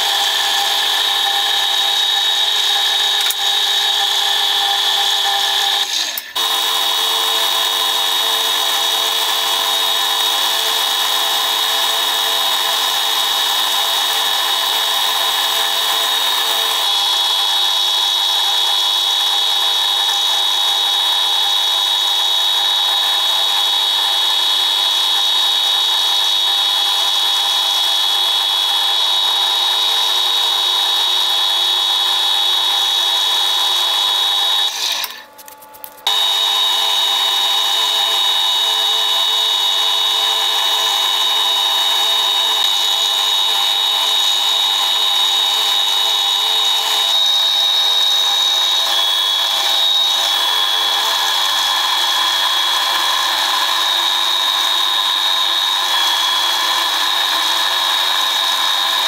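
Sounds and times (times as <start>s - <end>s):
machine tool whining: 0.0s - 59.0s.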